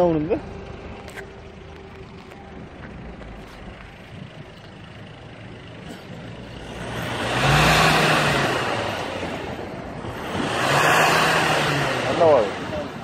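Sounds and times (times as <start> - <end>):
engine idling and revving: 0.0 - 13.0.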